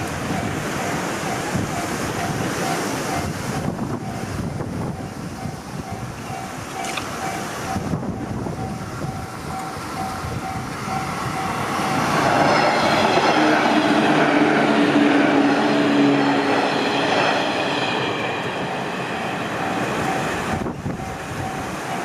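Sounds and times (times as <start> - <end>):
electric train passing: 0.0 - 22.0
level crossing warning bell: 0.0 - 22.0.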